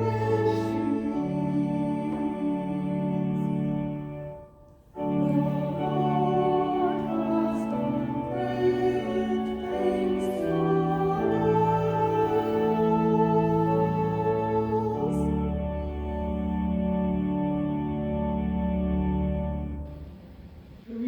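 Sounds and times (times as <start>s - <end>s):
slow church music: 0.0s - 21.0s.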